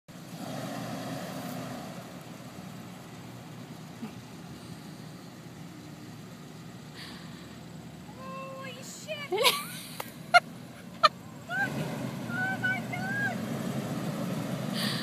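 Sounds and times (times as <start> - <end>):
engine running at low speed: 0.1 - 15.0.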